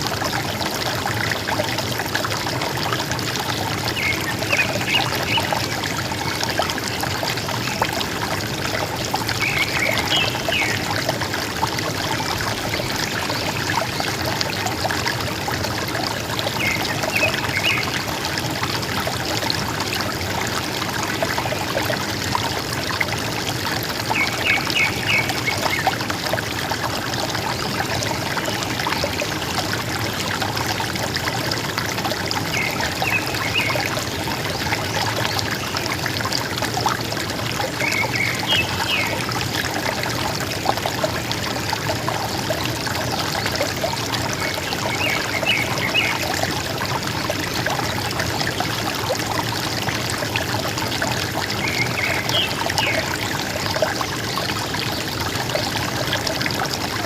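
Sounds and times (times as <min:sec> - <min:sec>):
river water gurgling: 0:00.0 - 0:57.0.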